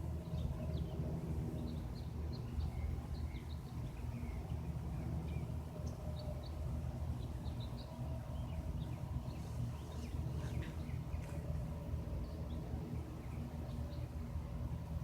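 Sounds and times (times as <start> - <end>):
low mechanical rumble: 0.0 - 15.0
small birds chirping: 0.0 - 15.0.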